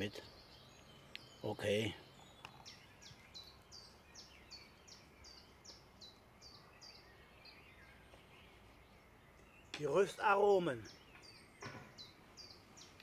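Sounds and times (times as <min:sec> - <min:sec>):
songbird calling: 0:00.0 - 0:13.0.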